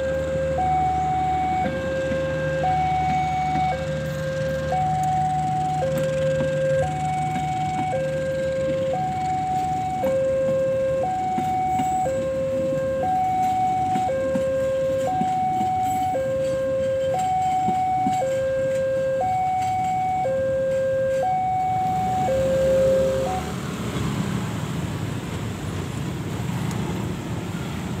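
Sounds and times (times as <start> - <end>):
two-tone level crossing alarm: 0.0 - 23.6
motorcycle engines: 0.0 - 28.0
train rumbling past: 0.0 - 28.0.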